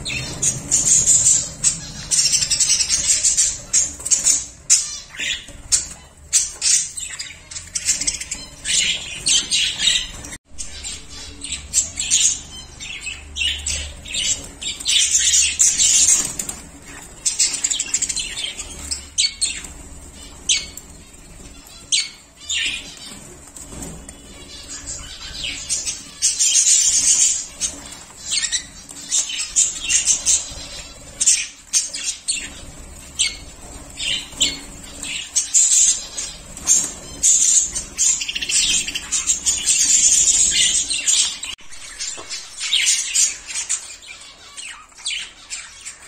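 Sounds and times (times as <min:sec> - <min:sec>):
budgerigars chirping: 0:00.0 - 0:46.0.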